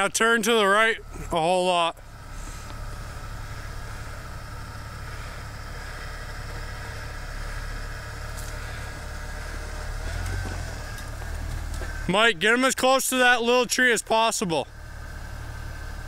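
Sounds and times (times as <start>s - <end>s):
car engine running low: 0.0s - 16.0s.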